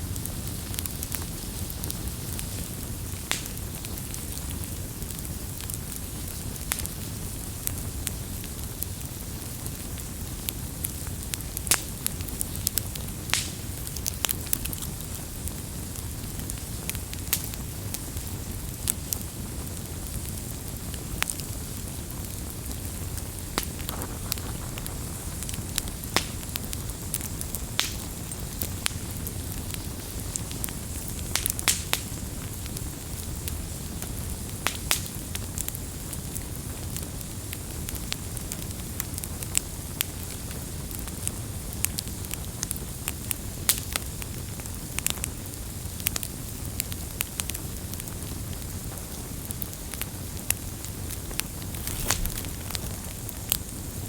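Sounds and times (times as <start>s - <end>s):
fire popping: 0.0s - 54.0s
wood fire rumbling and hissing: 0.0s - 54.0s.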